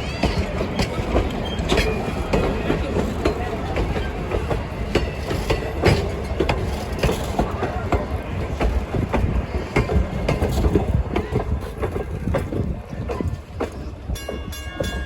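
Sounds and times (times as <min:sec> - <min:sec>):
train rumbling on track: 0:00.0 - 0:15.0
wheels clicking over rail joints: 0:00.0 - 0:15.0.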